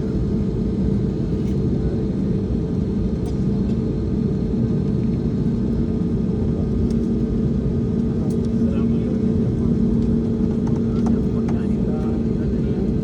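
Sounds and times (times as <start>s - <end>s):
airliner cabin rumble and hum: 0.0s - 13.0s.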